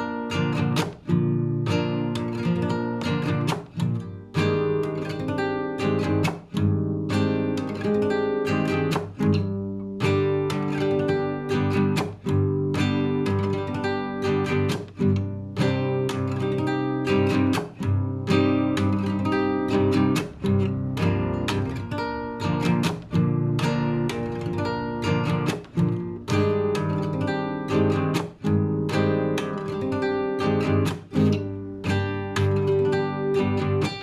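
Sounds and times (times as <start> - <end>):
classical guitar playing: 0.0 - 34.0.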